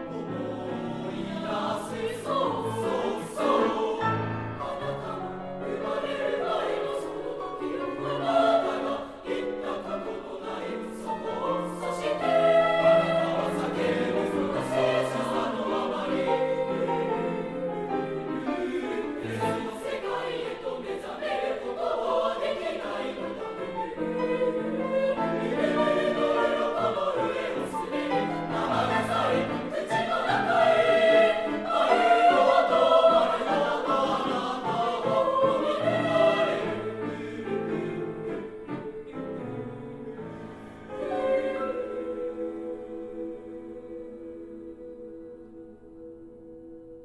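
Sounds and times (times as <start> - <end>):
choir singing sustained chords: 0.0 - 47.0.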